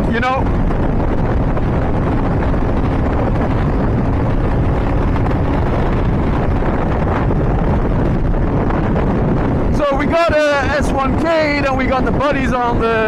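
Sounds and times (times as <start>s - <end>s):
motorcycle engine droning: 0.0s - 11.3s
wind rushing over microphone: 0.0s - 13.0s.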